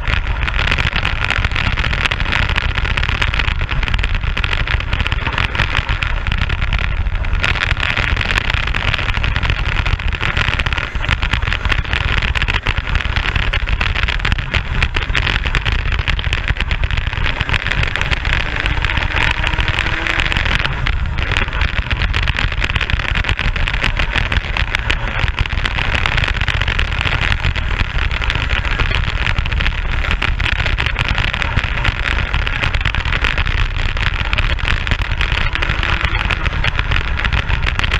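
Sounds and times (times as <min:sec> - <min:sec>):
kart engine running hard: 0:00.0 - 0:37.9.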